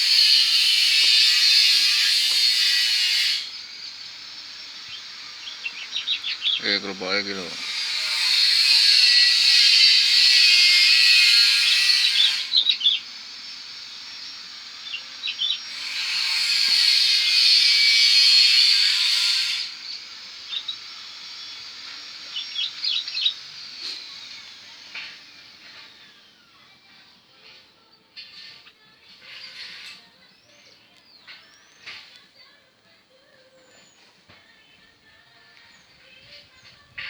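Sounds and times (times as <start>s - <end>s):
high hissing buzz: 0.0s - 37.0s.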